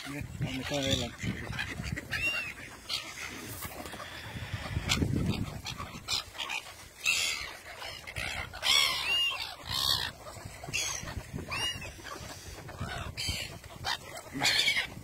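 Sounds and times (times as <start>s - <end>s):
gulls squawking: 0.0s - 15.0s.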